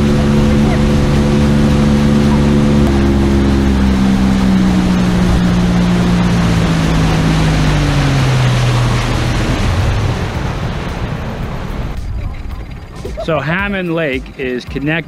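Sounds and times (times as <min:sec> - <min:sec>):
outboard motor at speed: 0:00.0 - 0:15.0
water rushing against hull: 0:00.0 - 0:15.0
wind: 0:00.0 - 0:15.0.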